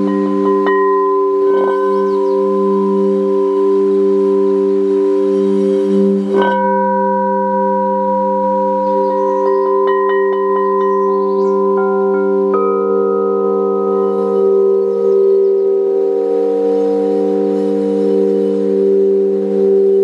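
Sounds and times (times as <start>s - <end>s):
crystal singing bowls chord: 0.0s - 20.0s.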